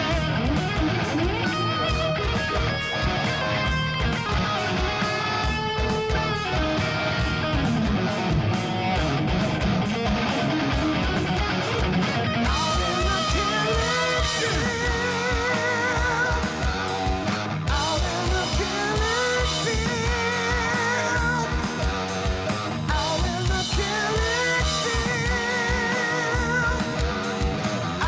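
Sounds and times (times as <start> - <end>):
electric guitar lead with vibrato: 0.0 - 28.0
rhythm guitar chords: 0.0 - 28.0.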